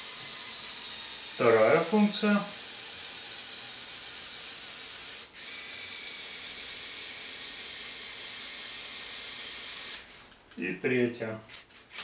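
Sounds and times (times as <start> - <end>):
toy electric motor whirring: 0.0 - 10.2.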